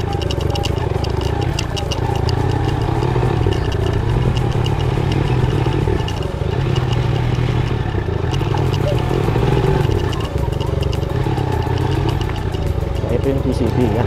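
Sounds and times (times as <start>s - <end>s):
light clattering ticks: 0.0s - 14.0s
motorcycle engine running: 0.0s - 14.0s.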